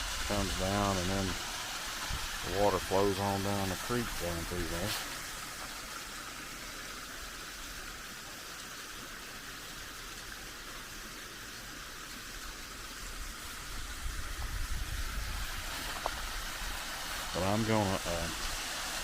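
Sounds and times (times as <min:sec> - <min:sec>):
waterfall and creek water: 0:00.0 - 0:19.0.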